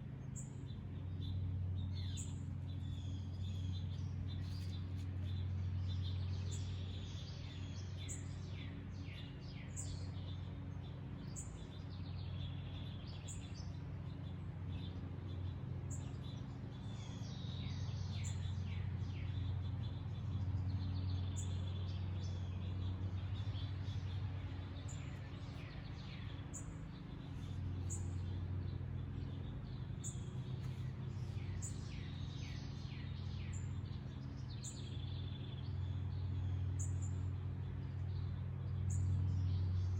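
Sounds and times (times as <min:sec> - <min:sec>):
songbirds chirping: 0:00.0 - 0:39.9
steady low hum: 0:00.0 - 0:39.9.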